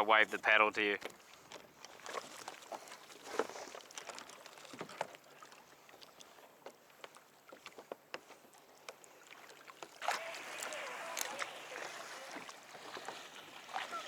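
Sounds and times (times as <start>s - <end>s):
water lapping against kayak: 0.0s - 14.0s
small splashes and knocks: 1.0s - 14.0s.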